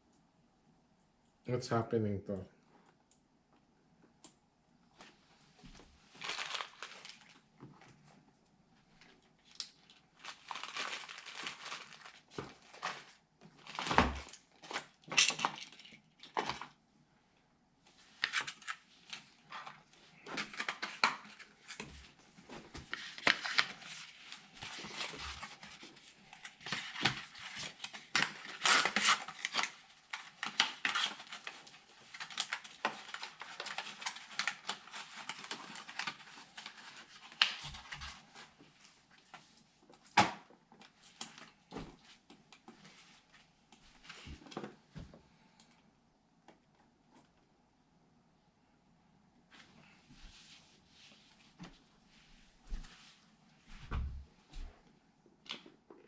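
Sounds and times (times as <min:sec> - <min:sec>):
rustling and crinkling: 0:04.9 - 0:16.8, 0:17.8 - 0:45.6, 0:49.4 - 0:54.8.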